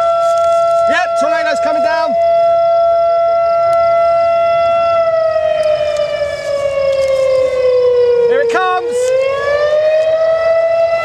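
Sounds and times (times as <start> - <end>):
warning siren wailing: 0.0 - 11.0.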